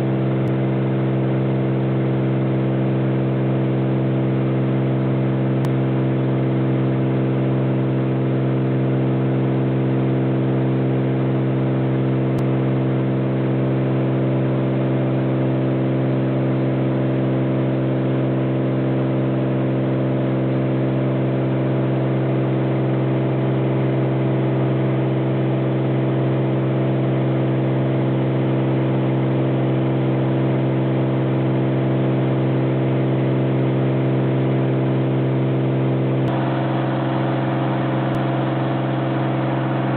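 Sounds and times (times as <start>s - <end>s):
propeller airplane cabin drone: 0.0s - 39.9s.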